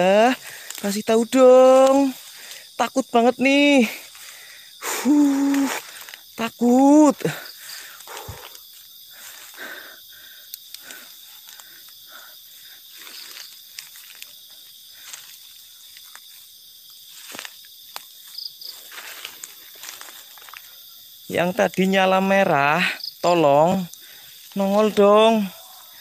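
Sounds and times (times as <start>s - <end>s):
footsteps on forest floor: 0.0s - 22.2s, 23.4s - 26.0s
crickets and night insects chirping: 0.0s - 26.0s.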